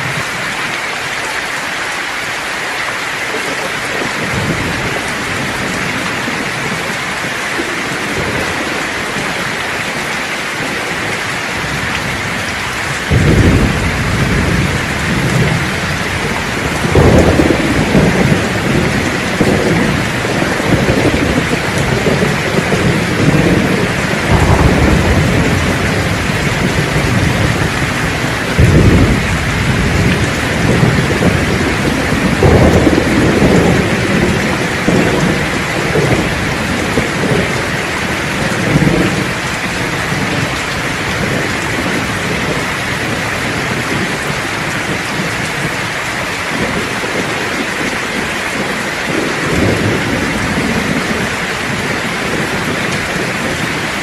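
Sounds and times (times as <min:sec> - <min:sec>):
rain hiss: 0:00.0 - 0:54.0
rolling thunder: 0:03.5 - 0:54.0.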